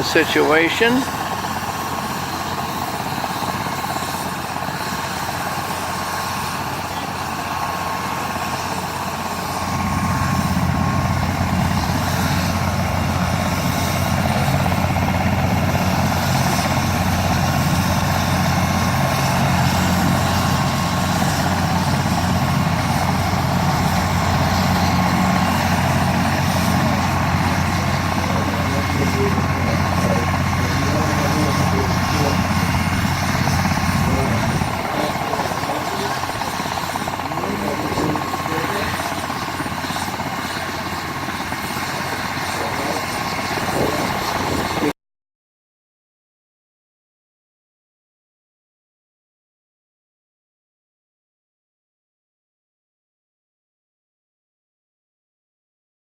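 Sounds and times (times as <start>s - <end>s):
helicopter rotor beat: 0.0s - 45.0s
helicopter turbine whine: 0.0s - 45.0s.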